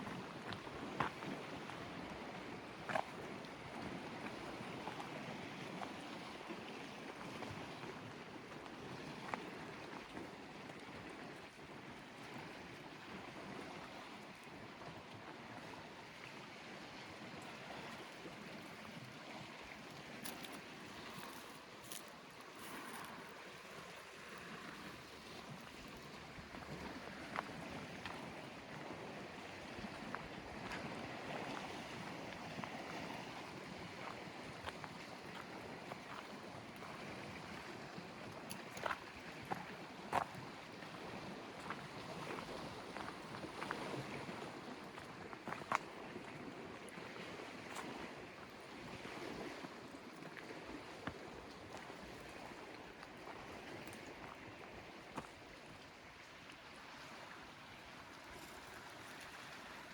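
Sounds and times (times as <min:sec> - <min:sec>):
lake waves lapping: 0:00.0 - 0:14.8, 0:16.7 - 0:59.9.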